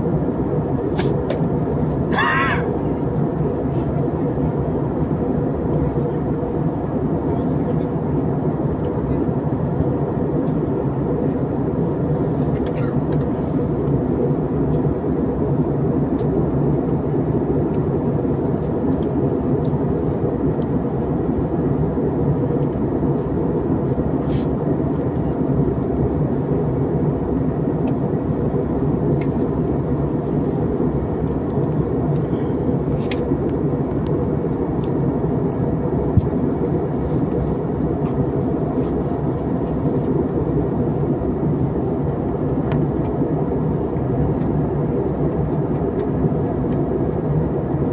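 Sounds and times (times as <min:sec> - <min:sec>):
airliner cabin noise: 0:00.0 - 0:47.9.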